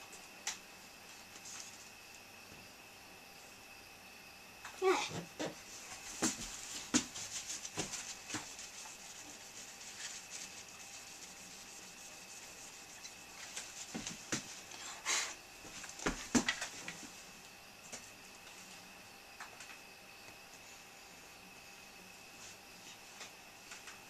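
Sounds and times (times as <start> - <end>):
faint high whine: 0.0 - 24.0.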